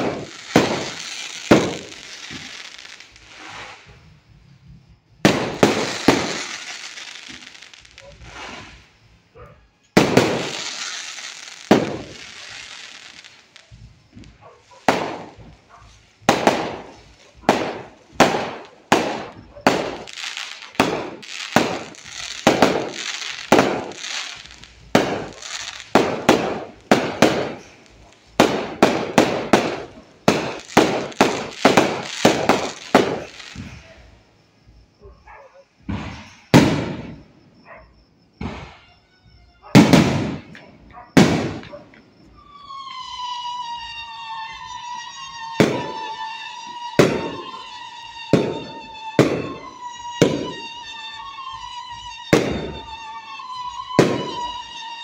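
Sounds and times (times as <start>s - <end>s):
fireworks shells bursting: 0.0s - 4.2s, 5.2s - 34.0s, 39.7s - 55.0s
fireworks crackling: 0.0s - 34.8s, 35.8s - 37.3s, 39.7s - 55.0s.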